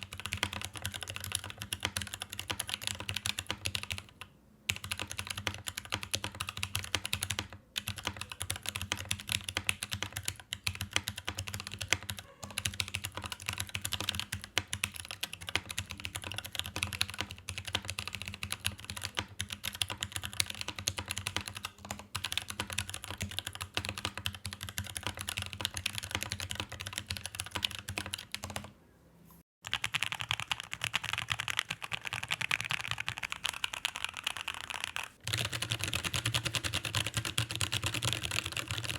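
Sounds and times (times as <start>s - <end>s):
typing on mechanical keyboard: 0.0s - 28.7s, 29.6s - 38.9s.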